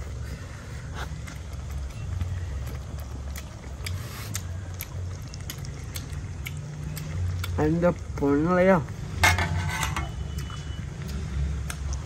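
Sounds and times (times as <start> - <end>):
person chewing crunchy food: 0.0 - 9.2, 10.0 - 12.0
steady low hum: 0.0 - 12.0.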